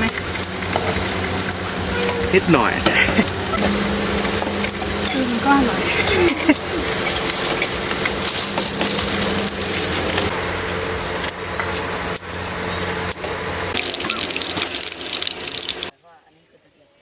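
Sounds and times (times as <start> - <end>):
heavy rain hiss: 0.0 - 15.9.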